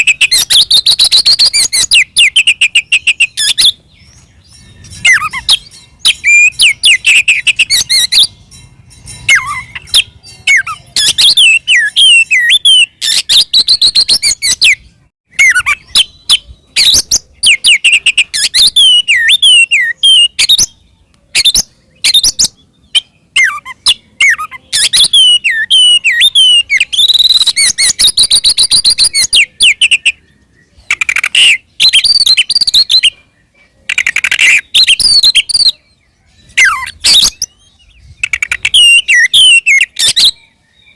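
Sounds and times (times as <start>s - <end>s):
bird singing loudly: 0.0s - 40.9s.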